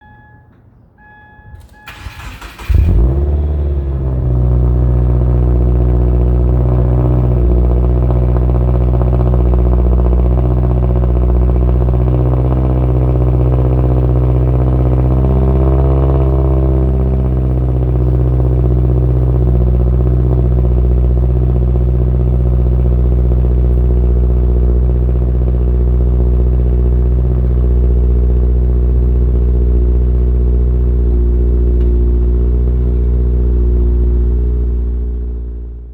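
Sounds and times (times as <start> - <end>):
car engine starting and idling: 0.0 - 35.9.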